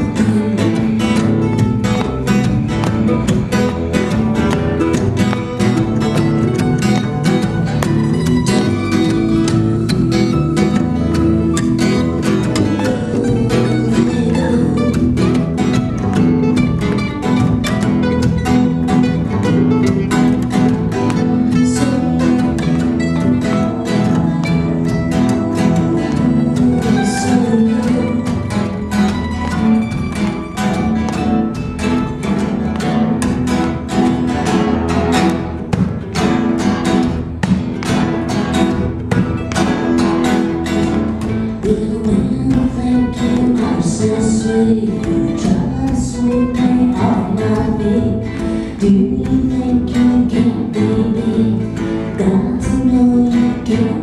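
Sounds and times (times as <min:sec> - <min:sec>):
acoustic string band playing: 0:00.0 - 0:54.0.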